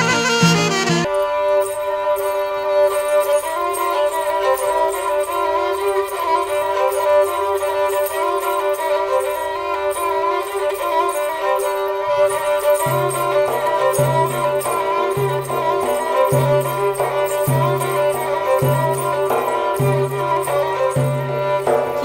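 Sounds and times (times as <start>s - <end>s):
bowed fiddle melody: 0.0s - 22.0s.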